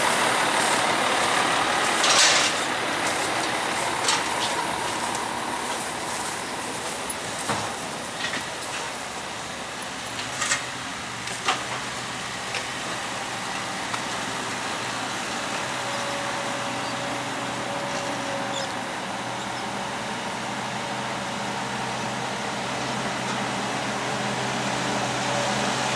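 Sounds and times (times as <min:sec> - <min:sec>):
skid steer engine running: 0:00.0 - 0:25.9.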